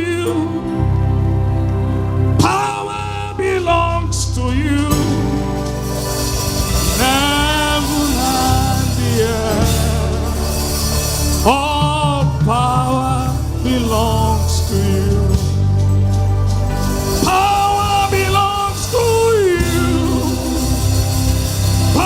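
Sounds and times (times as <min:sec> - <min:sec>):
band with bass line: 0:00.0 - 0:22.0
person singing gospel: 0:00.0 - 0:22.0.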